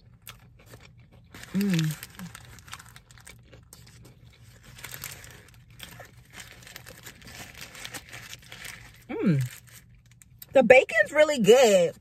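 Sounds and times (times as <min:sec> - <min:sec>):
paper wrapper crinkling: 0:00.4 - 0:10.4.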